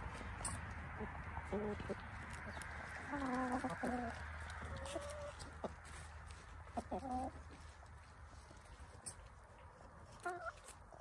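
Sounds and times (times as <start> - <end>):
hens clucking: 0.4 - 8.2, 9.0 - 11.0.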